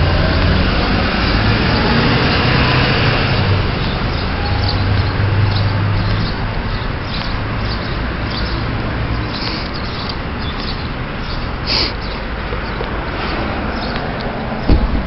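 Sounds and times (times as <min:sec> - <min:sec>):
low engine hum: 0:00.0 - 0:15.0
traffic noise: 0:00.0 - 0:15.0.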